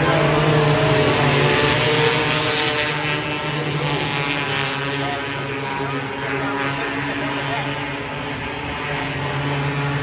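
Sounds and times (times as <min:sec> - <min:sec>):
racing car engines: 0:00.0 - 0:10.0.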